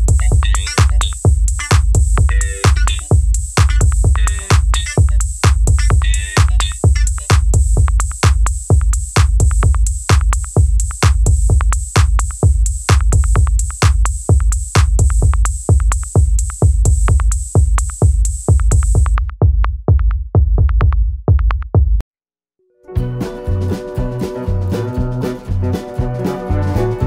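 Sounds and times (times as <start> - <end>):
electronic music with drum-machine beat: 0.0 - 22.0.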